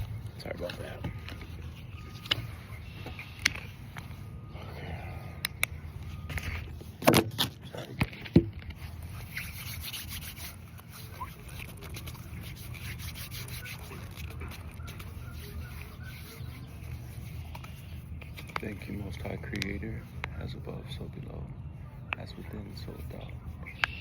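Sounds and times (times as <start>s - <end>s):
soft steady rubbing: 0.0s - 7.0s, 8.6s - 24.0s.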